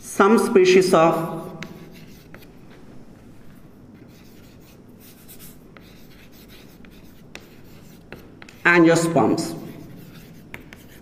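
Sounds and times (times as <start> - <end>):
chalk scratching on blackboard: 1.2 - 2.8, 3.4 - 11.0
chalk tapping: 1.4 - 11.0.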